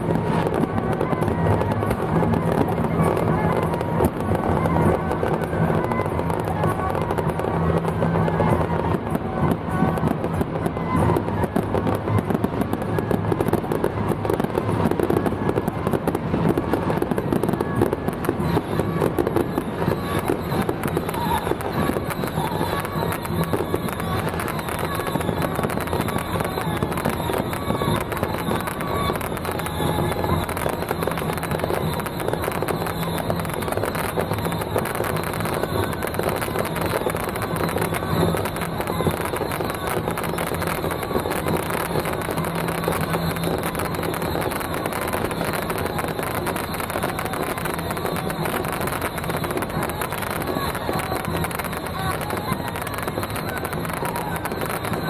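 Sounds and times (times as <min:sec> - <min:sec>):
fireworks crackling: 0:00.0 - 0:55.0.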